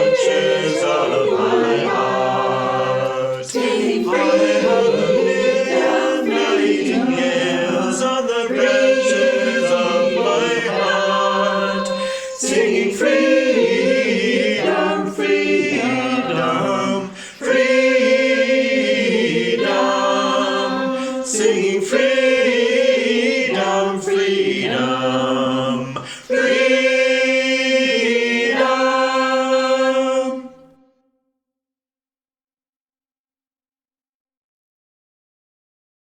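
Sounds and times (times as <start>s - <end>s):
choir singing: 0.0s - 30.9s.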